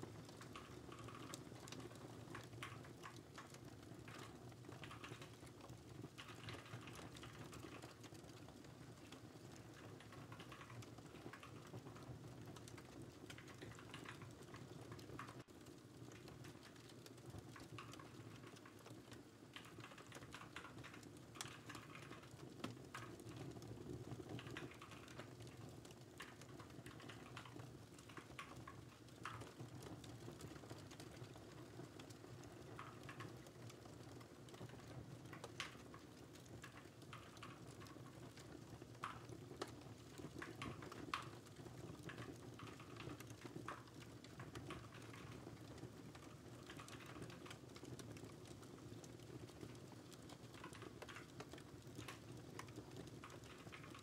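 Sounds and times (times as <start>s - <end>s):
crackling fireplace fire: 0.0s - 54.0s.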